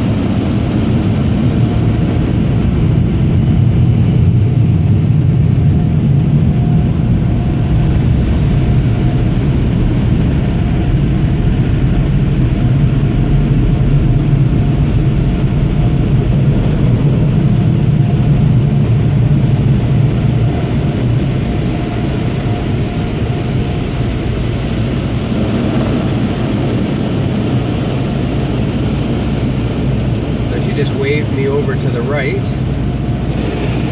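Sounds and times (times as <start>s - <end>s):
car wash machinery rumbling: 0.0s - 33.9s
flasher relay ticking: 5.4s - 33.9s.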